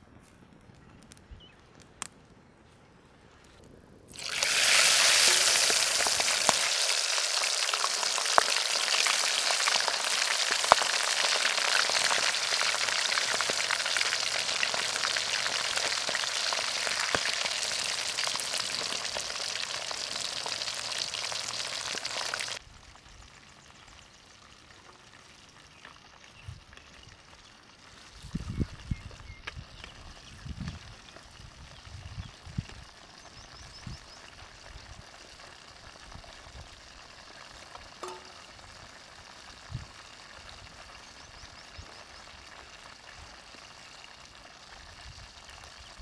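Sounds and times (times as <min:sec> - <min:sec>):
deep-frying sizzle in oil: 0:04.1 - 0:46.0.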